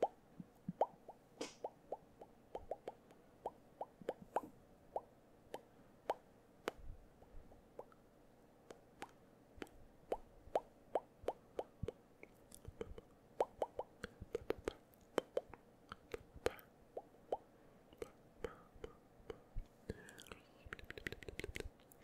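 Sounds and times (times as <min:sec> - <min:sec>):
tongue clicks and lip pops: 0:00.7 - 0:06.9, 0:07.8 - 0:08.0, 0:08.7 - 0:22.0.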